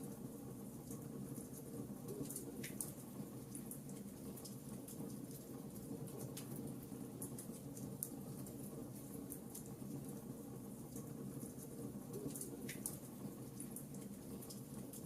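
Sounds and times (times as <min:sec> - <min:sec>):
low murmur of burning fire: 0:00.0 - 0:15.0.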